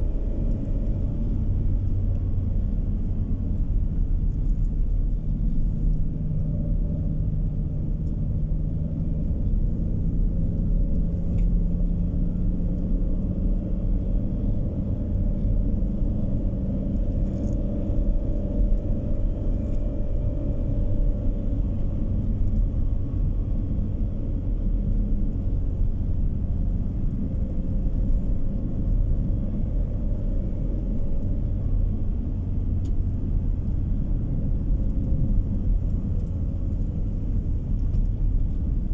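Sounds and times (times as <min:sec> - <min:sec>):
faint engine hum: 0:00.0 - 0:38.9
road and tyre noise: 0:00.0 - 0:38.9.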